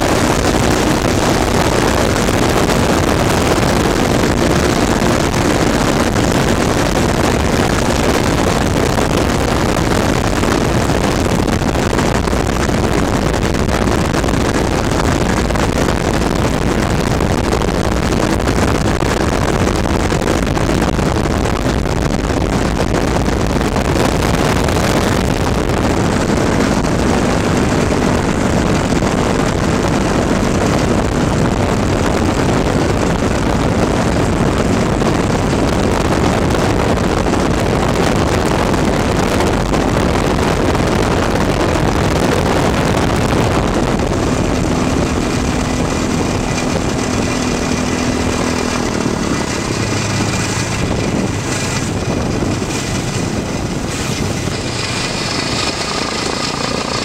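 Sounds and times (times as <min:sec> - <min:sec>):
propeller engine: 0:00.0 - 0:57.0
water rushing against hull: 0:00.0 - 0:57.0
wind: 0:00.0 - 0:57.0.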